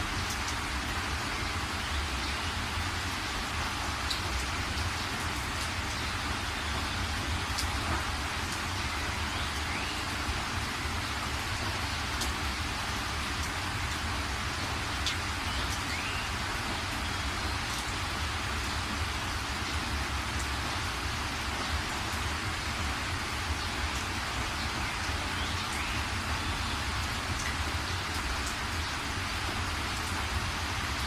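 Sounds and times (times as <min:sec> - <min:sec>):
rain hissing: 0:00.0 - 0:31.0.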